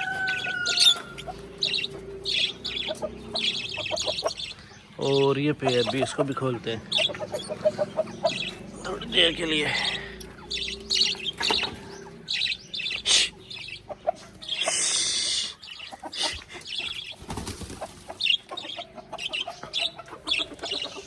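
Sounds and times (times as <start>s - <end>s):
hens and birds chirping: 0.0s - 21.0s.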